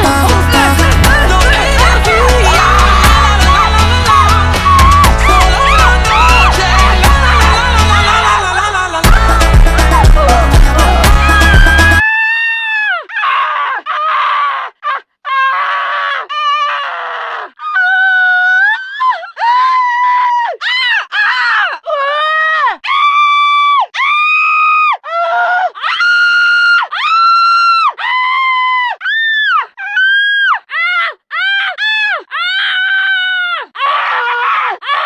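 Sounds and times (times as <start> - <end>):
high-pitched squealing cries: 1.5 - 8.4, 11.1 - 35.0.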